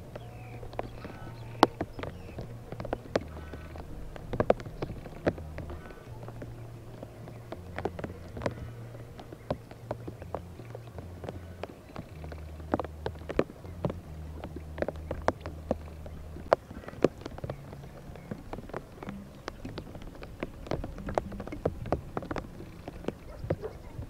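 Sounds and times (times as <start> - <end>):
low steady hum: 0.0 - 24.0
raindrops tapping on a surface: 0.0 - 24.0.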